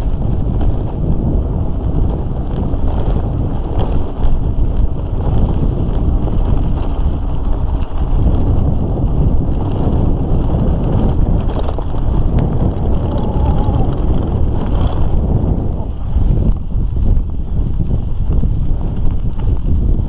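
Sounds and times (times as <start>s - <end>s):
bicycle rattling over bumps: 0.0s - 20.0s
wind buffeting microphone: 0.0s - 20.0s.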